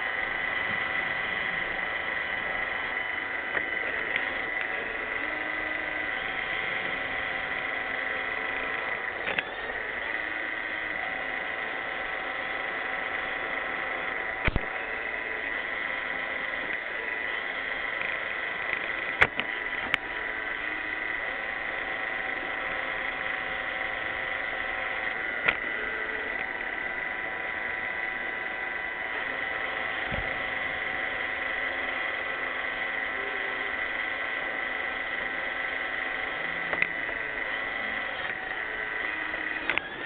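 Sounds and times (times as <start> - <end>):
robot vacuum whining: 0.0 - 40.0.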